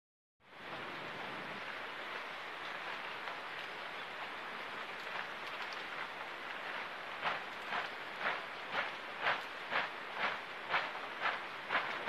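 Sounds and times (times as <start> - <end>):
steady hiss: 0.5 - 12.0.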